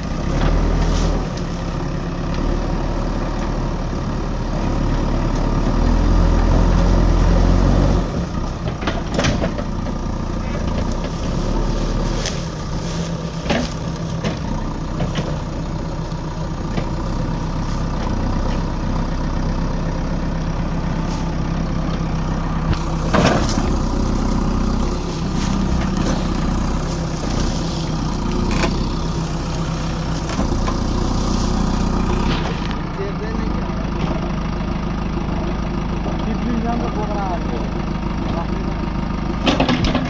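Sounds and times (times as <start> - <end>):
diesel engine running at low revs: 0.0 - 40.0.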